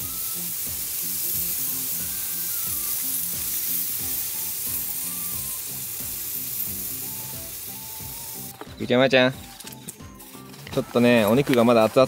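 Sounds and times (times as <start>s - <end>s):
background music: 0.0s - 12.0s
meat sizzling on griddle: 0.0s - 12.0s.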